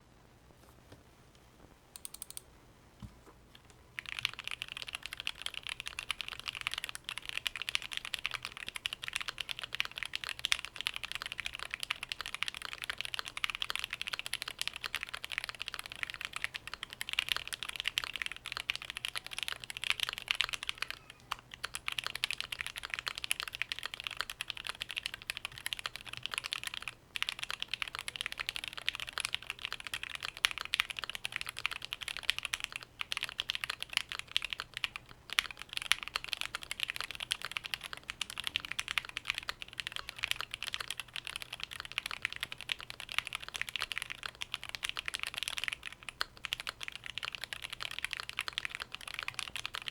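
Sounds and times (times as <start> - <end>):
fast typing on mechanical keyboard: 2.0 - 2.4, 4.0 - 49.9.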